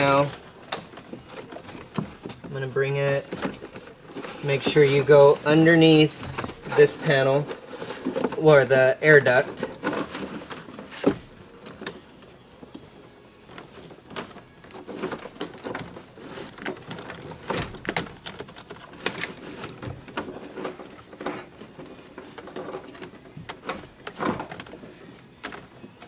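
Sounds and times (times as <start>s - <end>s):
scrapes and rustles of handling: 0.0s - 26.0s.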